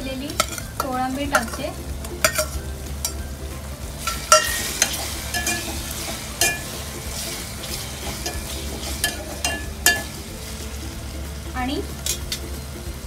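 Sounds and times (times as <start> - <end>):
prawns sizzling in hot oil: 0.0 - 13.0
spatula scraping metal pot: 0.3 - 11.1.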